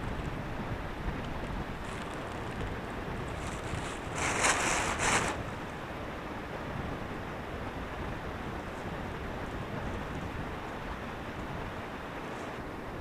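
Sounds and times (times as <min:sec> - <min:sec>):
wind-like noise: 0:00.0 - 0:13.0.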